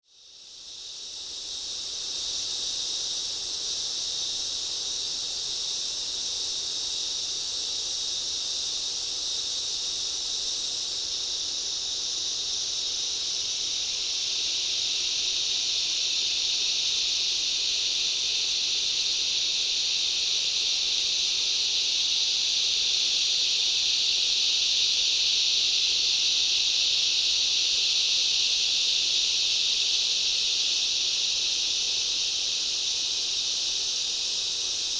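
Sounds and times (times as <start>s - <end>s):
insect chorus drone: 0.0s - 34.9s.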